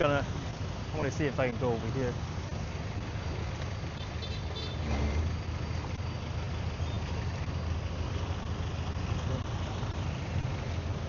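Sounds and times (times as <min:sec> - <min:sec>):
road traffic rumble: 0:00.0 - 0:11.0
street noise: 0:00.0 - 0:11.0.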